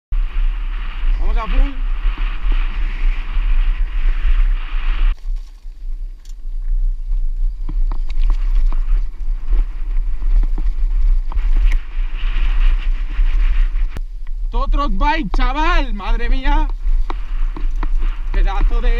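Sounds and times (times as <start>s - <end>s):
wind rushing on microphone: 0.1s - 18.9s.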